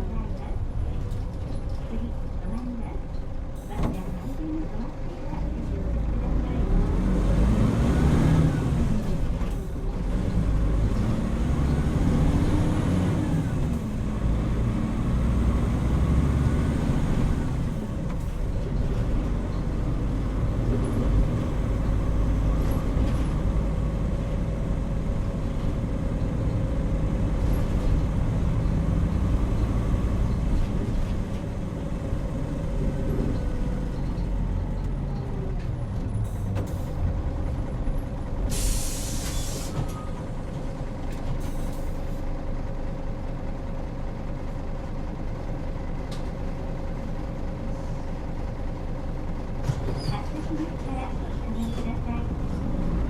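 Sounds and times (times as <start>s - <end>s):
bus diesel engine interior: 0.0s - 53.0s.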